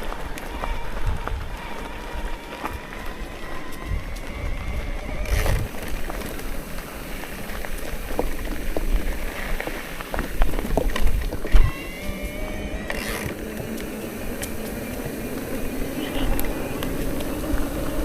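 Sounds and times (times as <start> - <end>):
small crackles and clicks: 0.0 - 18.0
wind rumbling on microphone: 0.0 - 18.0.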